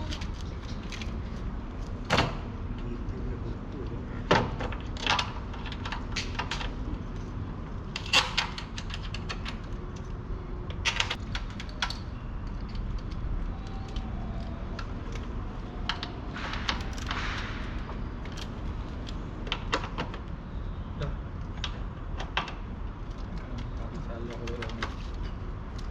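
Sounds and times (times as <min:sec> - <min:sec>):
car parts clicking and knocking: 0:03.8 - 0:25.9.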